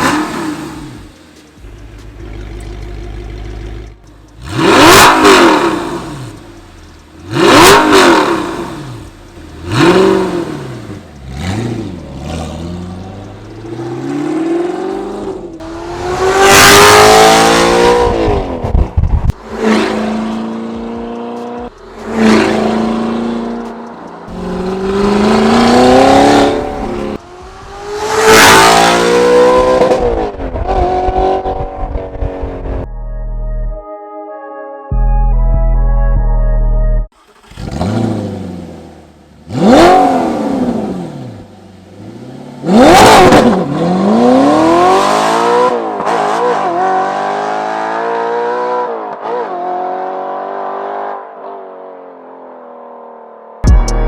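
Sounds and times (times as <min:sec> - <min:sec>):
sports car engine revving: 0:00.0 - 0:32.9, 0:37.2 - 0:51.2.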